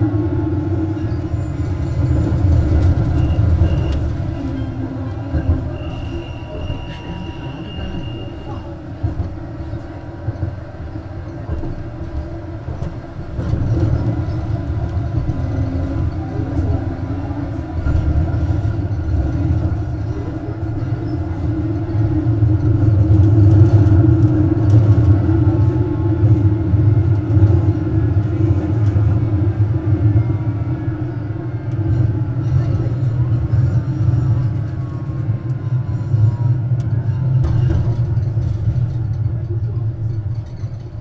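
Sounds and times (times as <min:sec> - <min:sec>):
tram running with low rumble: 0:00.0 - 0:41.0.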